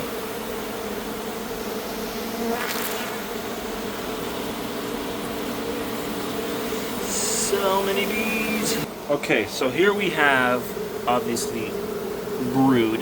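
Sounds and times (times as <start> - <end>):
honeybee swarm buzzing: 0.0 - 13.0.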